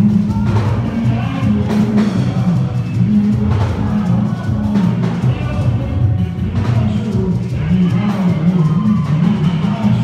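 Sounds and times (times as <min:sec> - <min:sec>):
gospel band music: 0:00.0 - 0:10.0
shifting bass line: 0:00.0 - 0:10.0.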